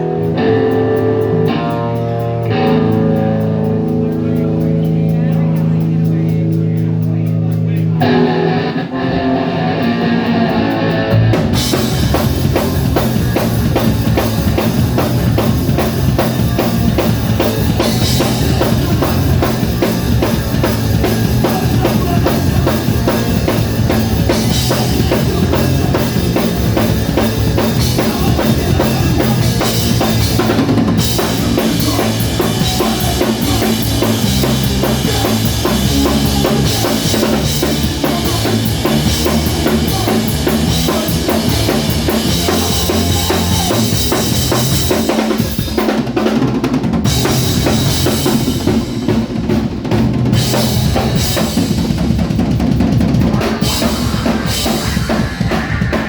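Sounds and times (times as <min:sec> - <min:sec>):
bass guitar: 0:00.0 - 0:56.0
guitar: 0:00.0 - 0:56.0
live band playing: 0:00.0 - 0:56.0
drum kit beat: 0:09.6 - 0:56.0.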